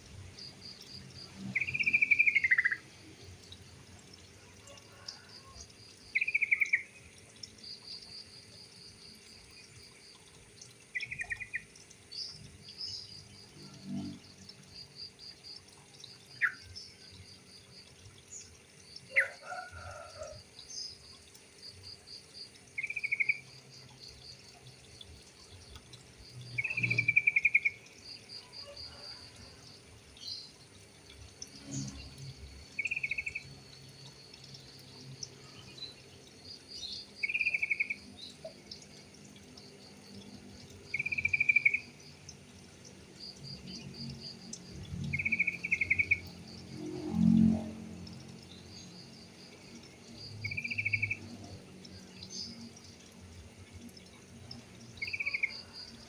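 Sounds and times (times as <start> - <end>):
insect chirr: 0.0 - 56.0.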